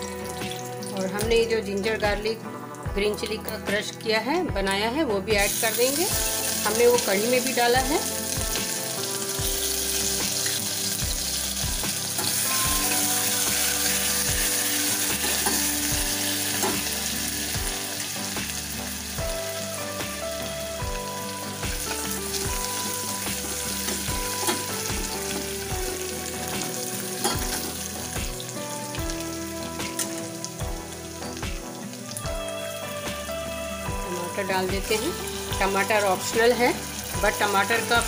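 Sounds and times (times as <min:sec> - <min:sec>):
spices sizzling in hot oil: 0:00.0 - 0:38.0.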